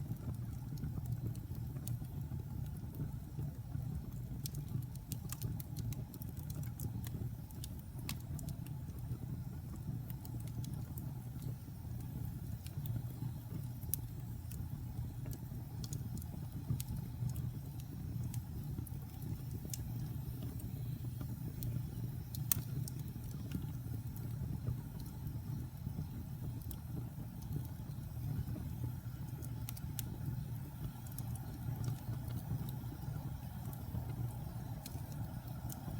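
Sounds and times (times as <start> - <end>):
fire burning with crackles and pops: 0.0 - 35.9.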